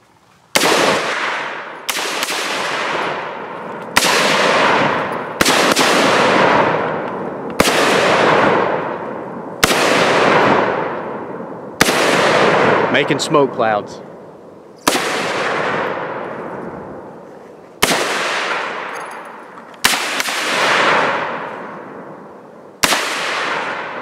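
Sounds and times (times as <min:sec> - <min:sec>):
pistol shots echoing: 0:00.5 - 0:17.2, 0:17.8 - 0:24.0.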